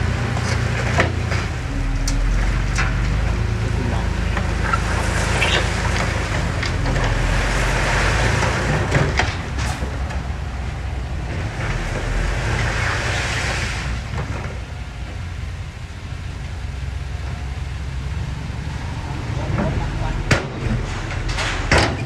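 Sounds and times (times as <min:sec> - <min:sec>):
diesel engine under load: 0:00.0 - 0:22.0.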